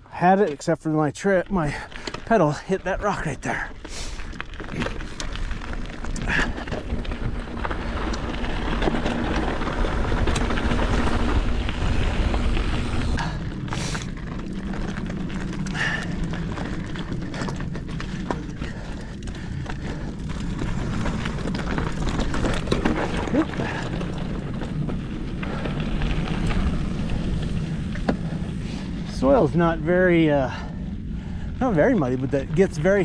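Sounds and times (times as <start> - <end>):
bike tyres rumbling on dirt: 0.1 - 33.0
bike rattling over rocks: 0.4 - 33.0.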